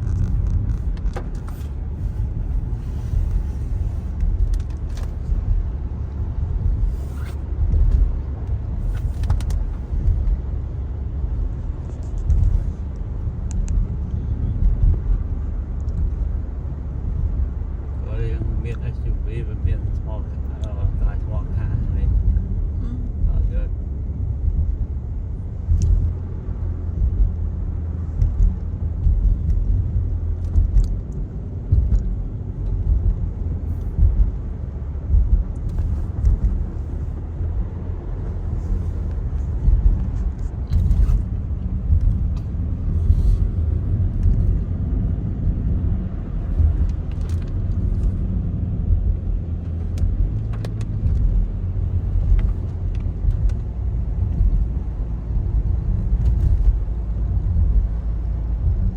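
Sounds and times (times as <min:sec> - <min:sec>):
car road rumble: 0:00.0 - 0:58.9.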